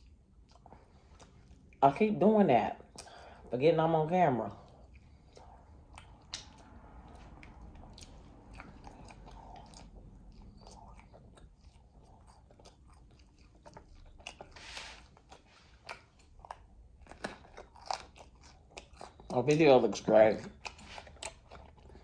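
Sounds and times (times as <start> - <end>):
chewing and biting: 0.0 - 1.8, 4.5 - 22.0.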